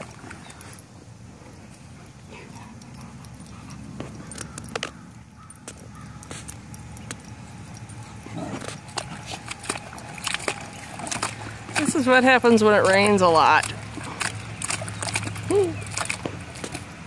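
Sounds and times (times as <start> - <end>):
dogs moving on muddy ground: 0.0 - 17.0
light jingling clicks: 0.4 - 17.0.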